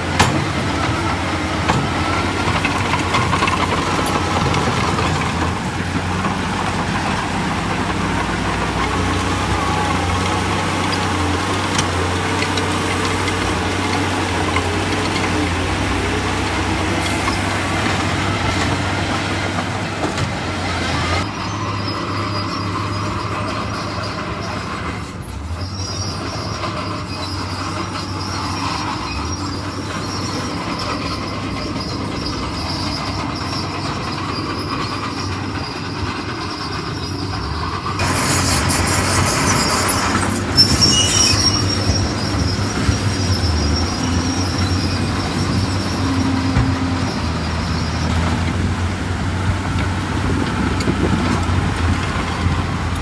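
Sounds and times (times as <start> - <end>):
bulldozer diesel engine under load: 0.0 - 53.0
steel tracks squealing and clattering: 0.0 - 53.0.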